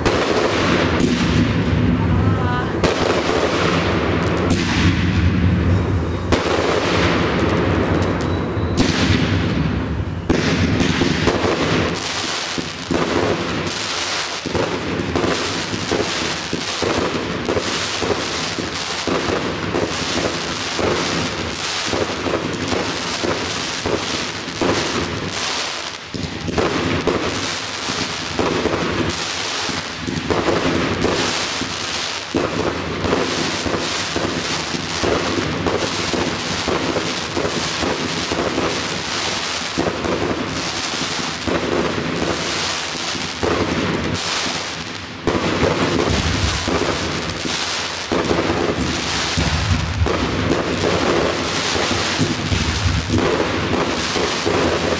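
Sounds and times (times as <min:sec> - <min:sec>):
firework bangs and crackles: 0:00.0 - 0:54.9.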